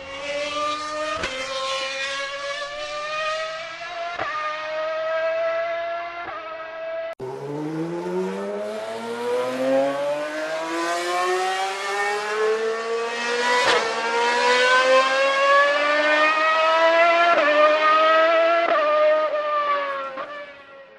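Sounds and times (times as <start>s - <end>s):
racing car engine revving: 0.0s - 20.6s
racing engine accelerating: 0.0s - 20.7s.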